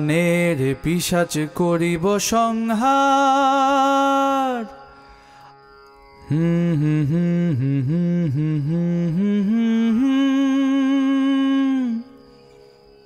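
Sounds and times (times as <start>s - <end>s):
man singing wordless melisma: 0.0s - 4.9s, 6.3s - 12.2s.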